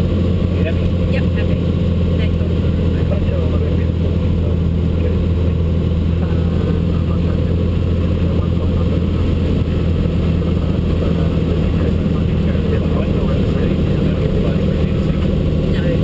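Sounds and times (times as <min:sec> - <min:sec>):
light aircraft engine drone: 0:00.0 - 0:16.0.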